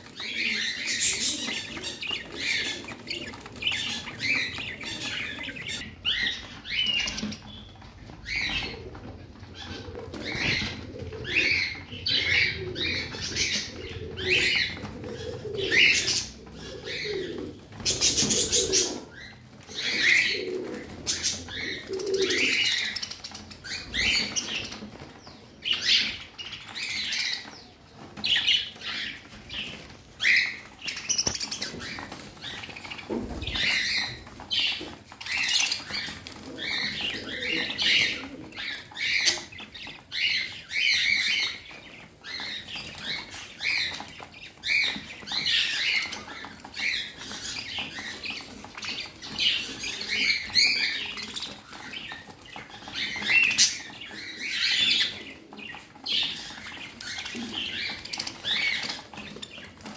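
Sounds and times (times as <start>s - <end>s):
wings fluttering: 0.0s - 59.9s.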